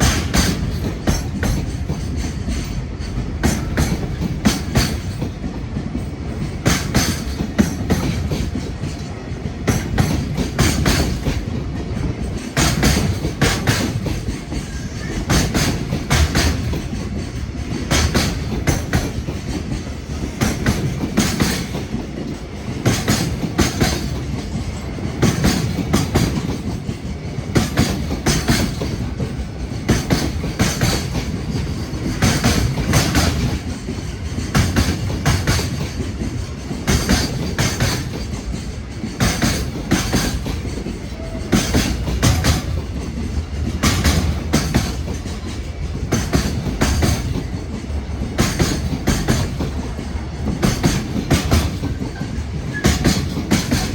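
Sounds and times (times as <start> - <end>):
freight train rumbling past: 0.0 - 53.9
wheels clattering over rail joints: 0.0 - 53.9.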